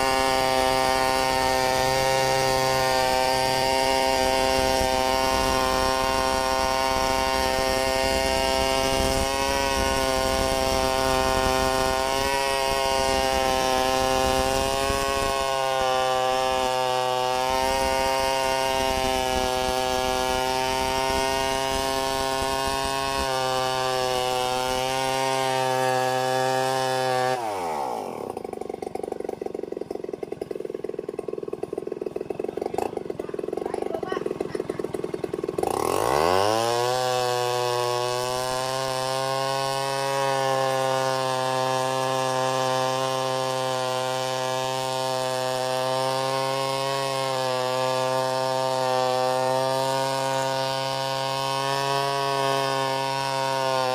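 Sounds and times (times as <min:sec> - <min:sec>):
chainsaw ripping a log: 0:00.0 - 0:53.9.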